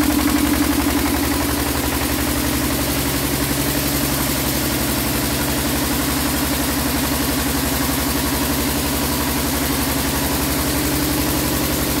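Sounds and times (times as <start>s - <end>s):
diesel generator running: 0.0s - 12.0s.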